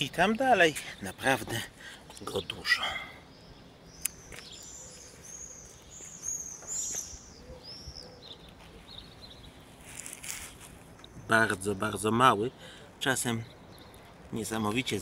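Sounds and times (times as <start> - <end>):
birds chirping: 0.0 - 15.0
faint background noise: 0.0 - 15.0.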